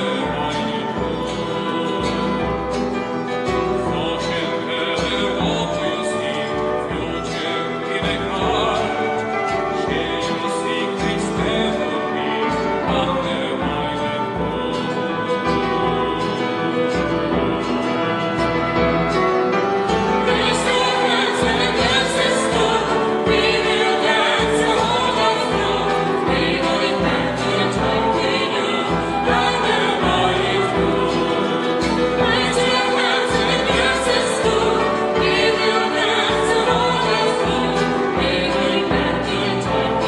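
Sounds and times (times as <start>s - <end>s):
instrumental accompaniment: 0.0s - 40.0s
vocal ensemble singing in harmony: 0.0s - 40.0s.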